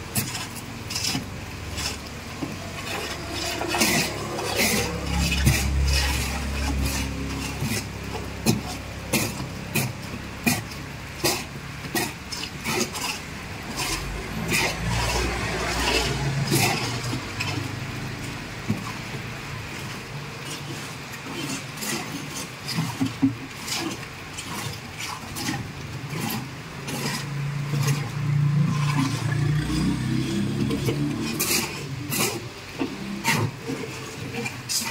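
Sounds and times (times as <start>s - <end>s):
passing vehicles rumbling: 0.0s - 34.9s.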